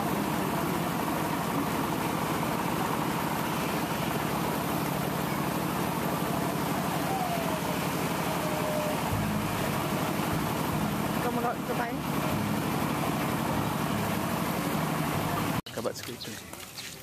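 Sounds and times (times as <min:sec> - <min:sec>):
water rushing: 0:00.0 - 0:15.6
vehicle engine running: 0:00.0 - 0:16.7.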